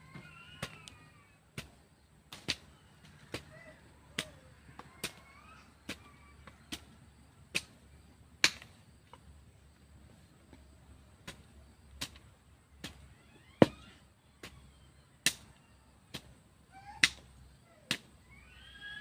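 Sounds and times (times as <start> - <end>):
hand hoe chopping into soil: 0.1 - 9.3, 10.2 - 18.2.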